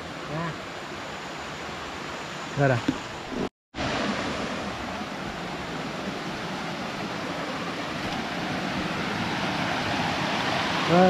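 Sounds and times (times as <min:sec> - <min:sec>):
stream flowing over stones: 0:00.0 - 0:11.0.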